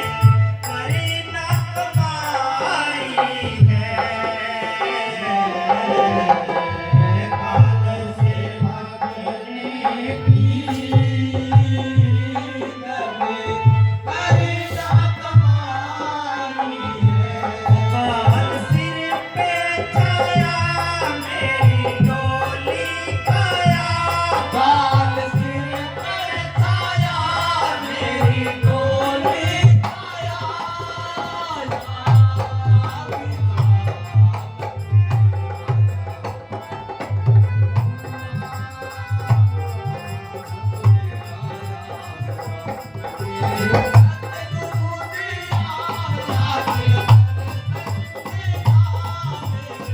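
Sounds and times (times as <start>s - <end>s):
person singing devotional song: 0.0s - 49.9s.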